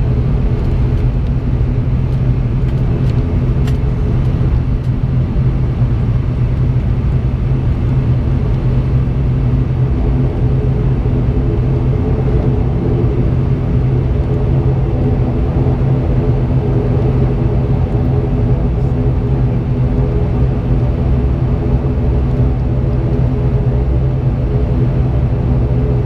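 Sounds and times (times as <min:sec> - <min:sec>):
turboprop engine droning: 0:00.0 - 0:26.0.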